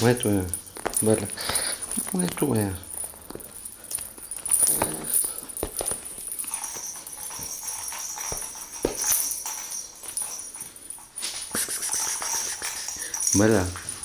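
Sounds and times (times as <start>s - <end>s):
paws and toy tapping: 0.6s - 14.0s.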